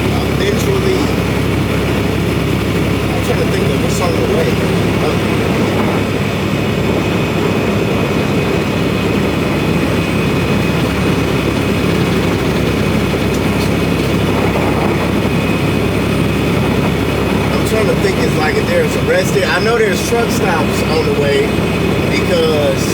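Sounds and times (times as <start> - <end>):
road noise inside cab: 0.0 - 22.9
truck diesel engine drone: 0.0 - 22.9.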